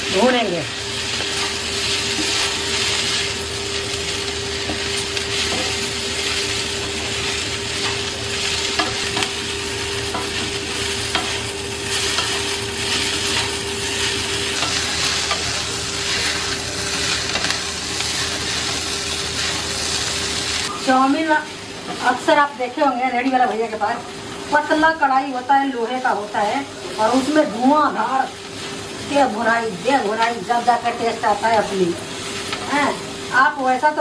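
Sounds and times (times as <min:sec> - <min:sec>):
noodles sizzling in a pan: 0:00.0 - 0:34.0.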